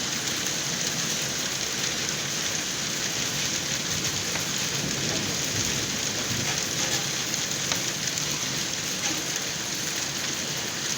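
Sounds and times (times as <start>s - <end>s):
rain pattering: 0.0s - 10.9s.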